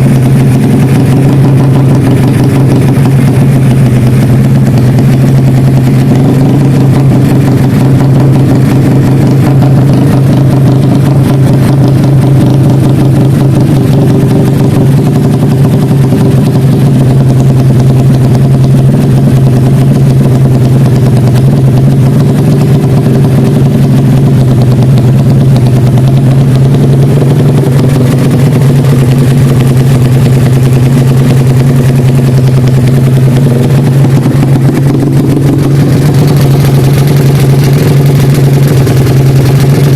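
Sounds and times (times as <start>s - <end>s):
motorcycle engine idling loudly: 0.0s - 39.9s.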